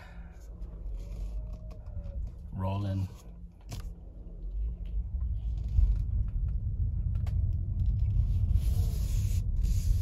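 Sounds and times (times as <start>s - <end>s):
road and tyre rumble in car: 0.0s - 10.0s.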